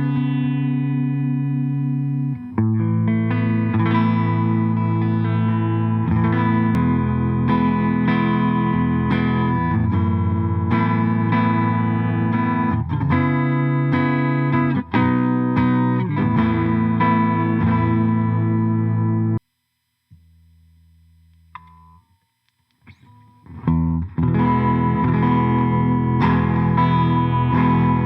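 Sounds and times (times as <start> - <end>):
electric guitar playing chords: 0.0 - 19.4, 22.9 - 28.0.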